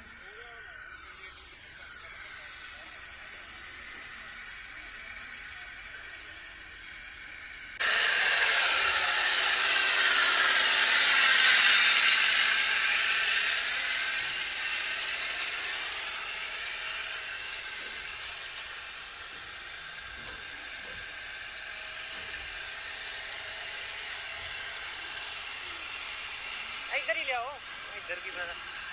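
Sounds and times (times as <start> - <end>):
disc harrow hissing through soil: 0.0 - 28.9.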